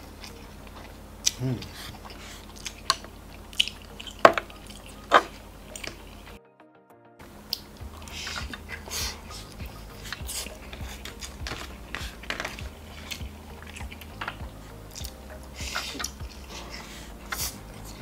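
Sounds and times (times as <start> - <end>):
man slurping and chewing noodles: 0.0 - 6.2, 7.5 - 18.0.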